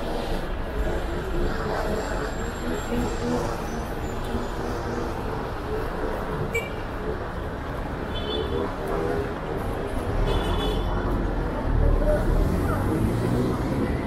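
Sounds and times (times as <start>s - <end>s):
faint voices: 0.0s - 14.0s
traffic noise: 0.0s - 14.0s.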